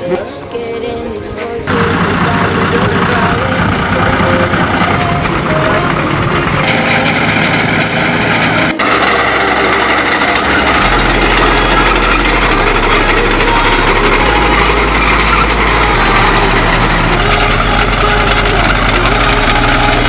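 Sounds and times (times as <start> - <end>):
diesel tractor engines working: 0.0 - 20.0.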